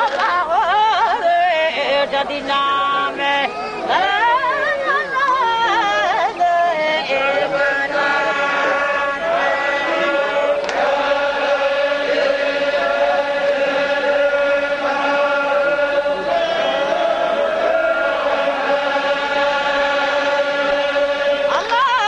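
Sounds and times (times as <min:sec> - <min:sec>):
person singing devotional chant: 0:00.0 - 0:22.0.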